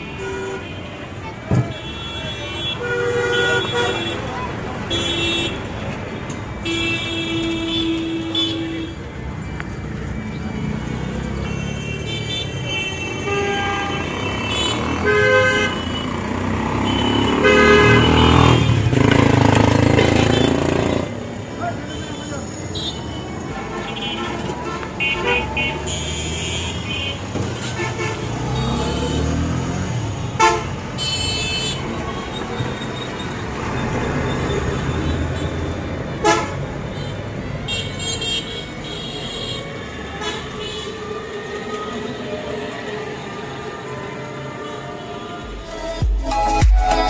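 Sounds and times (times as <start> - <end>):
vehicle horns tooting: 0.0 - 5.8, 6.6 - 9.1, 10.9 - 41.1
road traffic rumble: 0.0 - 47.0.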